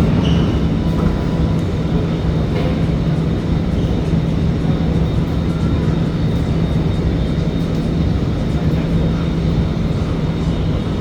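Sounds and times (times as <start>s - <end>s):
metro train rolling: 0.0s - 11.0s.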